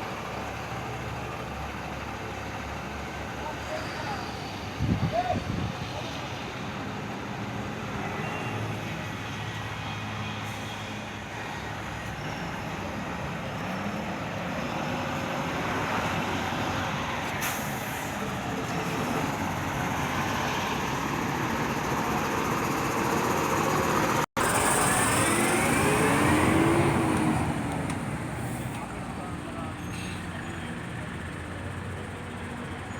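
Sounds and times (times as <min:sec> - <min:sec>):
truck diesel engine: 0:00.0 - 0:05.0, 0:05.8 - 0:32.9
road and traffic noise: 0:00.0 - 0:32.9.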